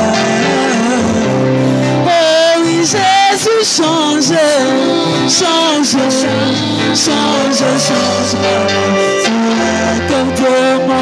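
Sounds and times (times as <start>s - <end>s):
electronic keyboard accompaniment: 0.0s - 11.0s
woman singing into microphone: 0.0s - 11.0s.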